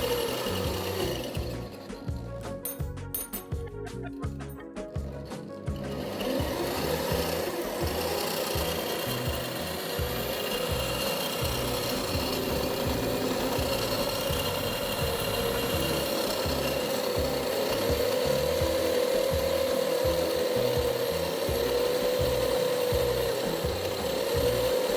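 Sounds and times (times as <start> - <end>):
sanding belt rasping: 0.0 - 2.2, 5.7 - 24.9
belt sander motor whine: 0.0 - 2.3, 5.2 - 24.9.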